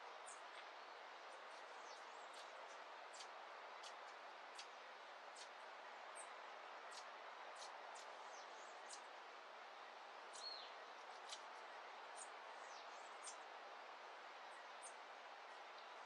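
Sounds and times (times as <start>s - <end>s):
soft background hiss: 0.0s - 16.0s
small birds chirping: 0.1s - 9.3s, 10.2s - 13.6s, 14.3s - 16.0s.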